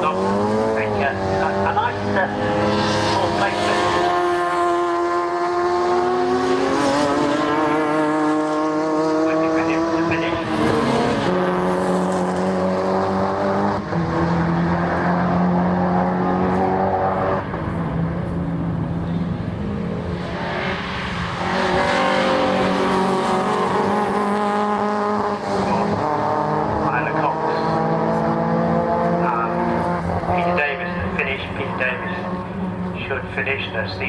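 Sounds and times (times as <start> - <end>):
racing car engines: 0.0 - 34.0.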